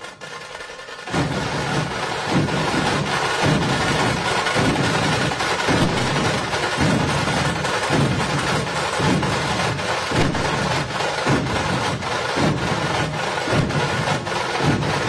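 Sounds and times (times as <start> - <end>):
loud dhol drumming: 0.0 - 15.0.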